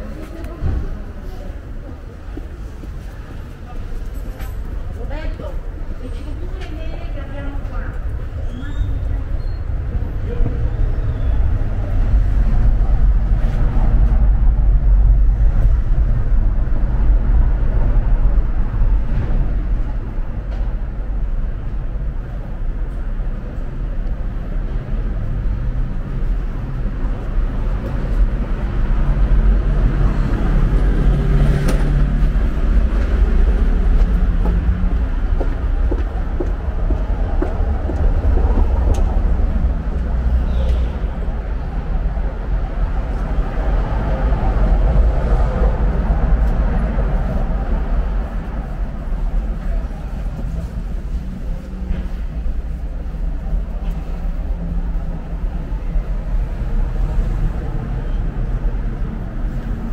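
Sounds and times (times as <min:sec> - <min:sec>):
city street traffic rumble: 0:00.0 - 0:59.9.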